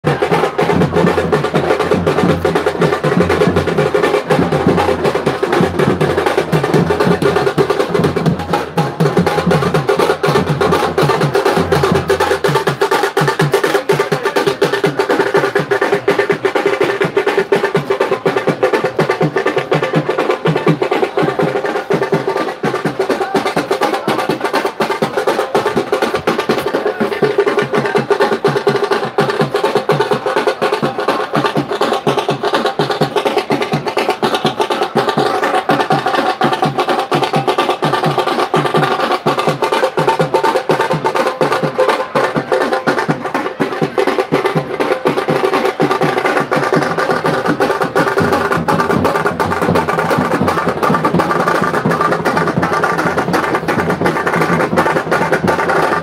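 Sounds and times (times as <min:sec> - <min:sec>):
fast continuous drumming: 0:00.0 - 0:56.0.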